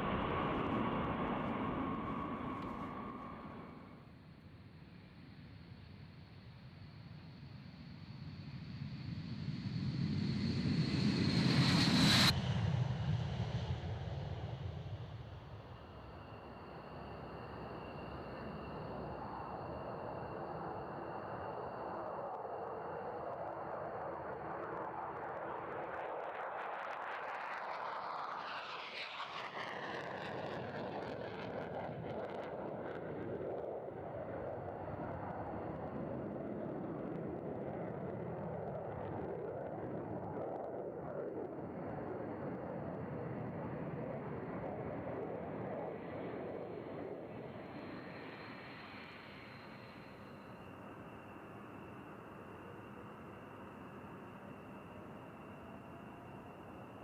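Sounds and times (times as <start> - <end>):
jet engines rumbling and whining: 0.0 - 5.6, 7.7 - 57.0.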